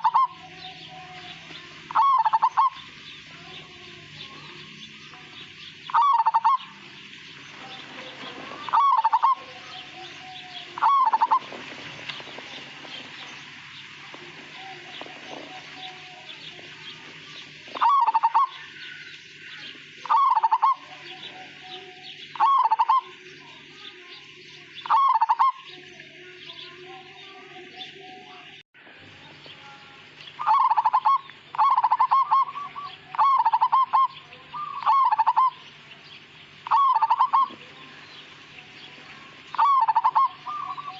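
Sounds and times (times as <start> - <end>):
dove cooing: 0.0 - 23.6, 24.7 - 25.8, 30.4 - 35.6, 36.6 - 37.9, 39.1 - 40.9.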